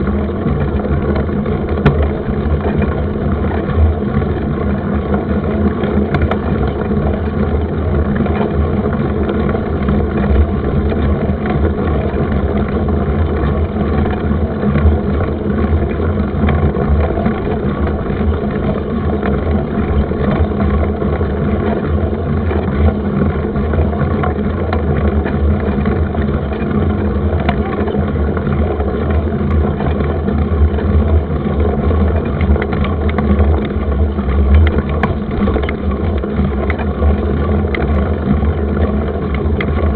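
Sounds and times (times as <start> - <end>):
bike rattles and clicks: 0.0 - 39.9
wind rumble on microphone: 0.0 - 39.9.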